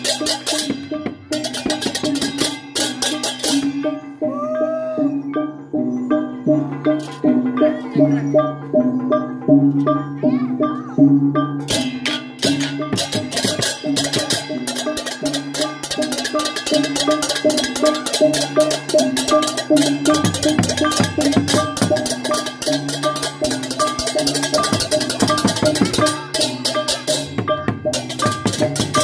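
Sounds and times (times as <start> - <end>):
hand cymbals clashing: 0.0 - 29.0.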